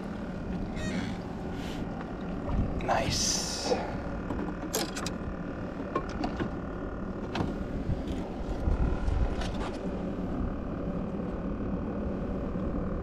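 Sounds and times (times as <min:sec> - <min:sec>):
low rumble: 0:00.0 - 0:05.9, 0:06.5 - 0:13.0.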